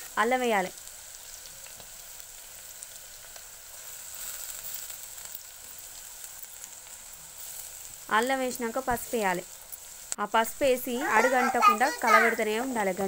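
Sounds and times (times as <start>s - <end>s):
onions frying in oil: 0.0s - 13.0s.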